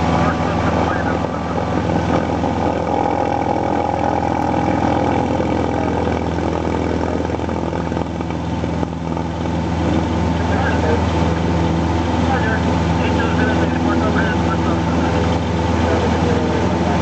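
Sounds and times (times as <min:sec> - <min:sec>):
aircraft piston engine drone: 0:00.0 - 0:17.0.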